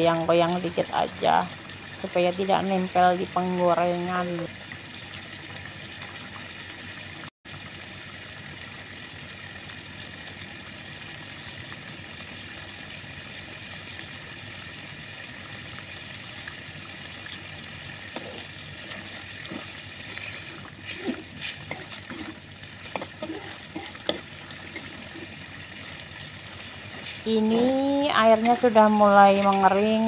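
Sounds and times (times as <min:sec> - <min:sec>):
food simmering in frying pan: 0:00.0 - 0:30.0.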